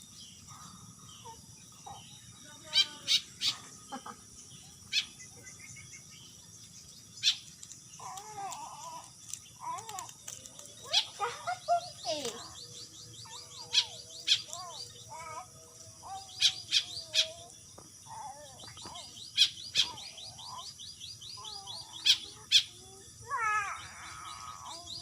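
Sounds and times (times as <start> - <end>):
warbling whistled bird calls: 0.0 - 6.5, 10.4 - 25.0
bird chirps: 0.0 - 25.0.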